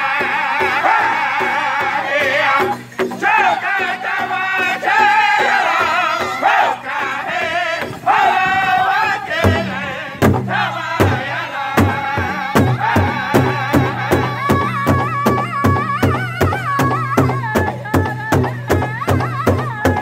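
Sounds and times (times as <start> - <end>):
group singing in high voices: 0.0 - 20.0
large drum struck in unison: 0.2 - 20.0.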